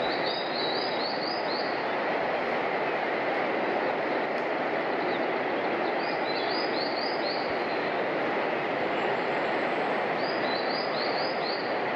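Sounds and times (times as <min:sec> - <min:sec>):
train running on rails: 0:00.0 - 0:11.9.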